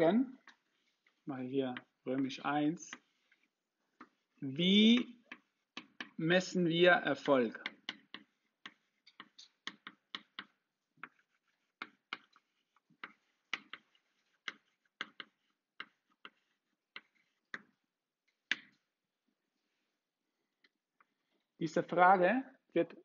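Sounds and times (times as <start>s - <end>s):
chalk tapping on blackboard: 0.4s - 19.0s.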